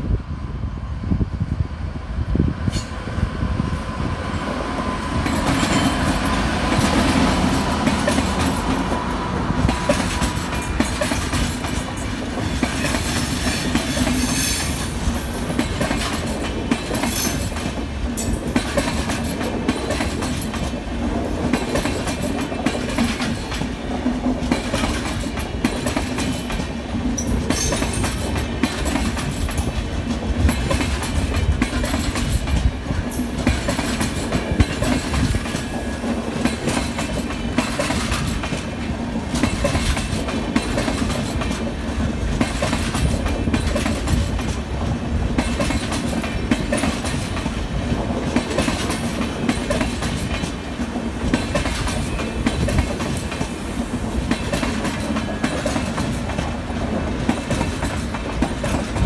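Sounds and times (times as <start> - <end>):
train rumbling past: 0.0 - 59.0
wheels clacking over rail joints: 4.4 - 59.0.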